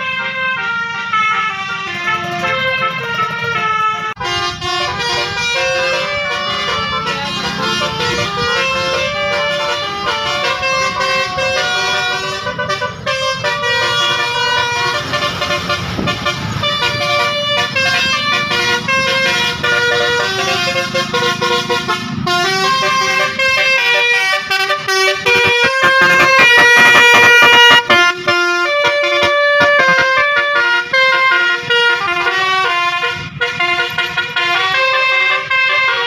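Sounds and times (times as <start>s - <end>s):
musical air horn melody: 0.0s - 36.0s.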